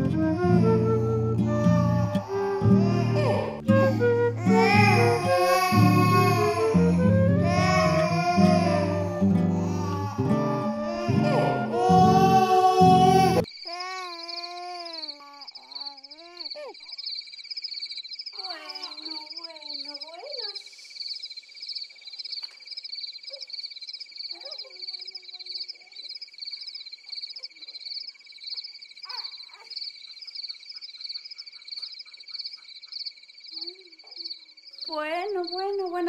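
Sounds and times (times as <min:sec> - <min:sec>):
high pulsing insect trill: 0:00.0 - 0:36.0.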